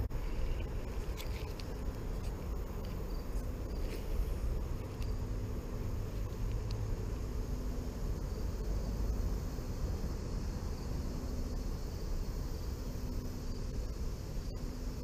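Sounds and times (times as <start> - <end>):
low outdoor noise: 0.0 - 15.0.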